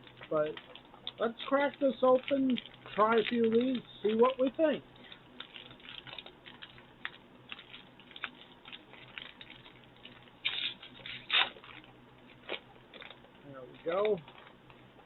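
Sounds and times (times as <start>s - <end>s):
plastic bag tearing: 0.0s - 14.8s
plastic bag crinkling: 0.0s - 15.0s.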